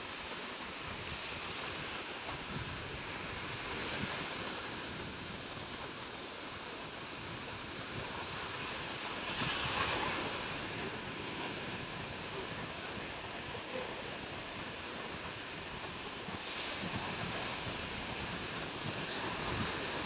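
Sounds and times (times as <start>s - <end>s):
sea waves washing onto beach: 0.0s - 20.0s
wind buffeting microphone: 0.7s - 20.0s.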